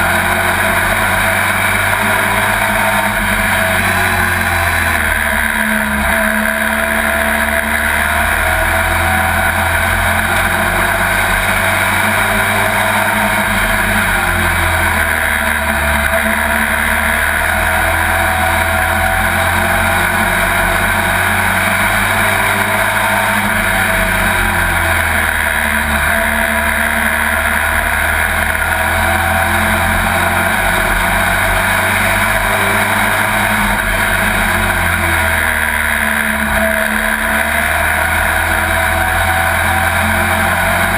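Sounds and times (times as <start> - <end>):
race truck engine drone: 0.0 - 40.9.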